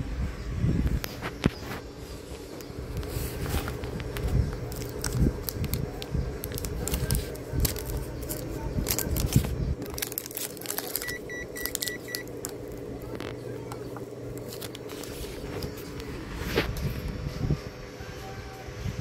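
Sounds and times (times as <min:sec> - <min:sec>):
steady low hum: 0:00.0 - 0:19.0
rustling handling noise: 0:01.0 - 0:17.3.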